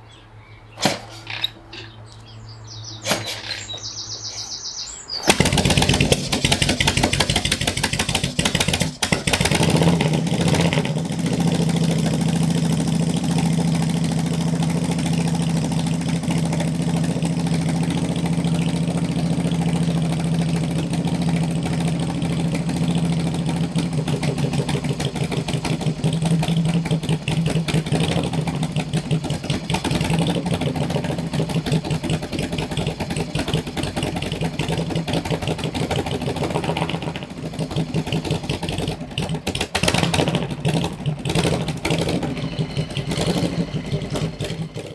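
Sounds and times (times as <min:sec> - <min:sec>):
motorcycle engine idling: 0:01.3 - 0:44.9.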